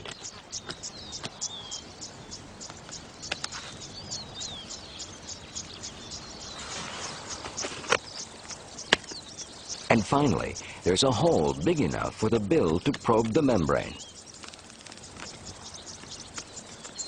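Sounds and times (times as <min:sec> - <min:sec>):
bird chirps: 0:00.0 - 0:17.0
insects chirping: 0:00.0 - 0:17.0.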